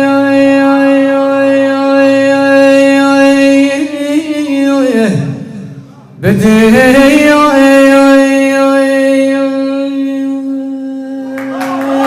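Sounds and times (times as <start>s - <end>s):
man singing long note: 0.0s - 12.0s.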